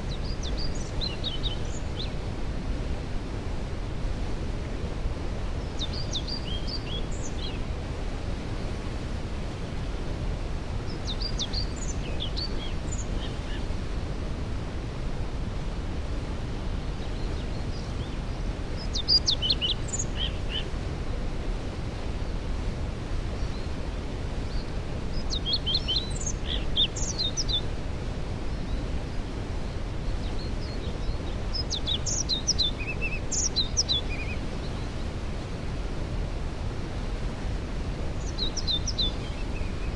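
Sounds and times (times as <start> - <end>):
songbirds chirping: 0.0 - 2.4, 5.3 - 7.8, 10.4 - 14.7, 16.2 - 39.9.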